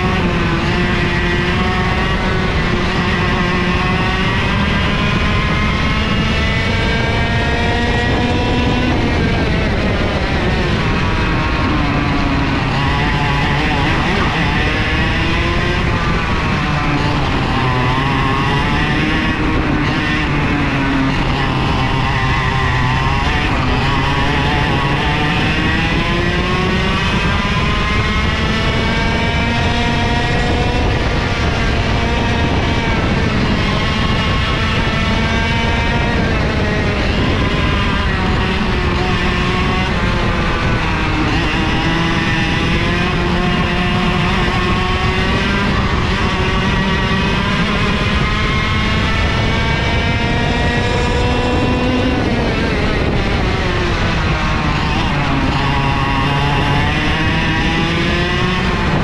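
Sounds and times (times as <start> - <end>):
kart engine racing: 0.0 - 59.0.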